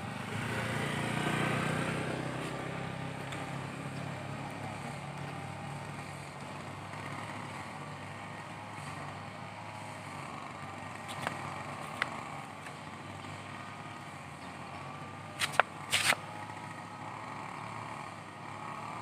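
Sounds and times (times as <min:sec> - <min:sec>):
distant engine traffic hum: 0:00.0 - 0:19.0.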